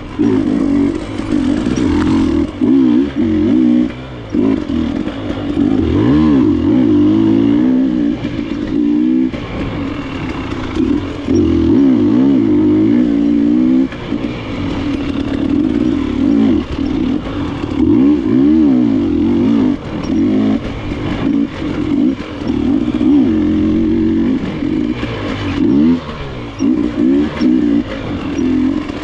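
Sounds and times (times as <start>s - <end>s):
dirt bike engine revving: 0.0s - 29.0s
light clatter from motorbike: 0.0s - 29.0s.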